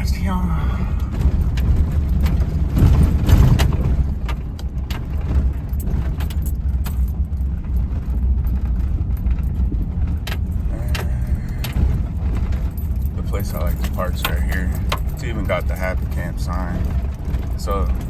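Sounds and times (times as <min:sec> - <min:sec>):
car engine and tyre rumble: 0:00.0 - 0:18.0
small clicks and rattles: 0:00.9 - 0:18.0.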